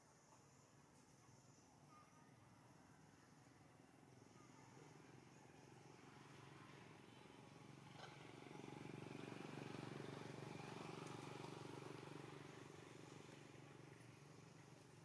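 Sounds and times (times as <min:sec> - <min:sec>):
faint low engine hum: 0:00.0 - 0:15.0.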